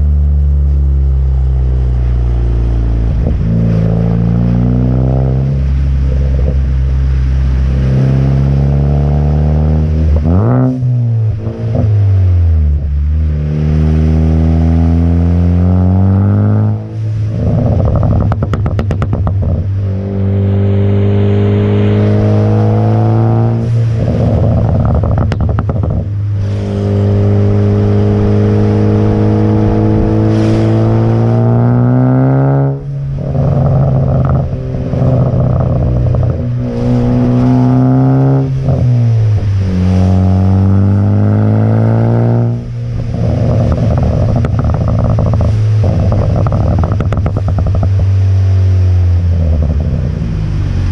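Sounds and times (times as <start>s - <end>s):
car engine revving through gears: 0.0s - 50.9s
exhaust crackles and pops: 0.0s - 50.9s.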